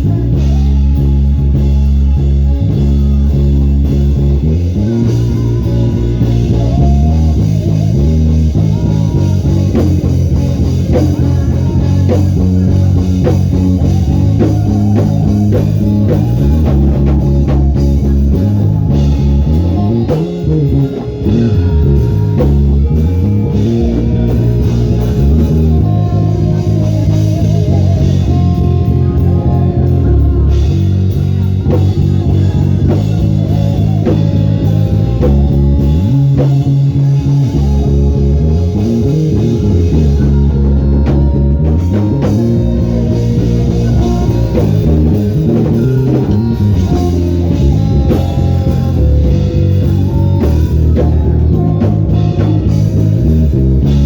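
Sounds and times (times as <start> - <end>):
band music: 0.0 - 54.0
bass guitar lines with slides: 0.0 - 54.0.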